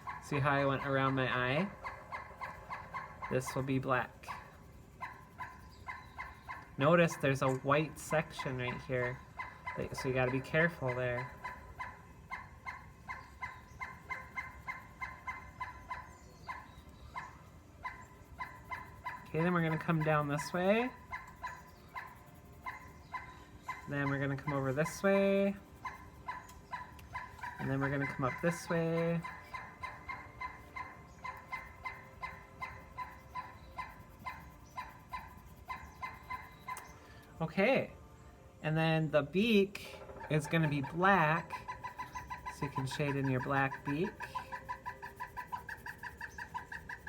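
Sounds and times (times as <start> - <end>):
pencil squeaking on paper: 0.0 - 37.8, 39.2 - 47.0.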